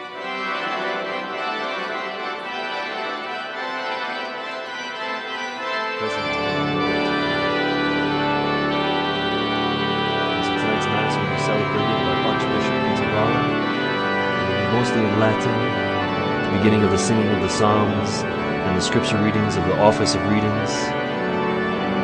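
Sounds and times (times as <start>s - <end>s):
organ chords: 0.0s - 22.0s.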